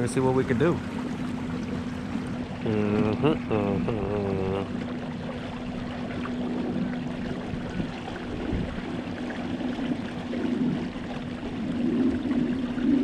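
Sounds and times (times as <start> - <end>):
steady low hum: 0.0 - 13.0
water splashing along hull: 0.0 - 13.0.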